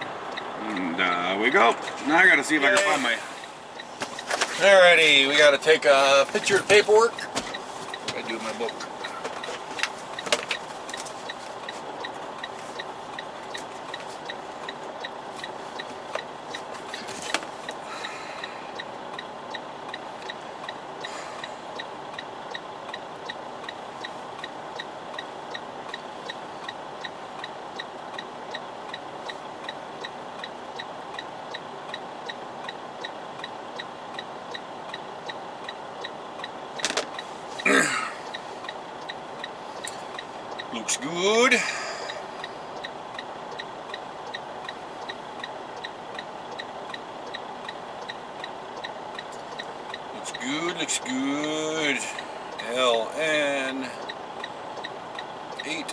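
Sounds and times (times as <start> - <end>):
constant hum: 0.0 - 55.9
rapid ticking: 0.0 - 55.9.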